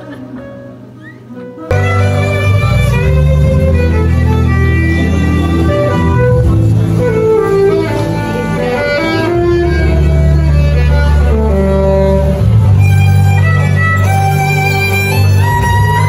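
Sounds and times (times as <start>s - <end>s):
violin melody: 1.4s - 16.0s.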